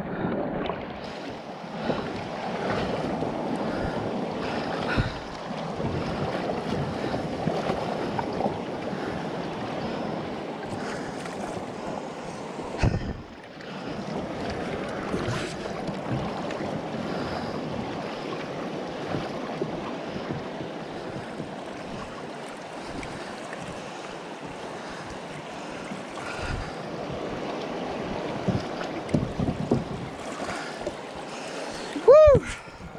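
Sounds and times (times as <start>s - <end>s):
wind on microphone: 0.0s - 22.2s, 25.8s - 31.2s, 31.9s - 32.9s.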